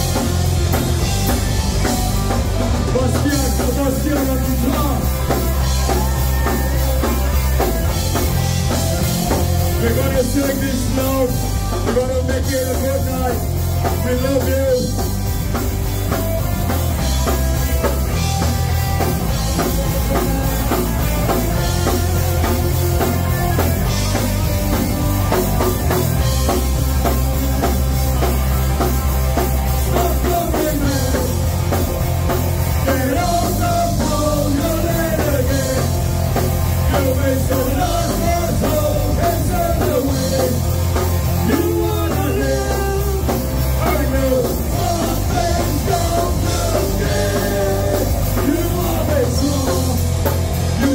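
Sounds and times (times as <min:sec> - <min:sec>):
drum kit beat: 0:00.0 - 0:50.9
electric guitars: 0:00.0 - 0:50.9
rock band playing: 0:00.0 - 0:50.9.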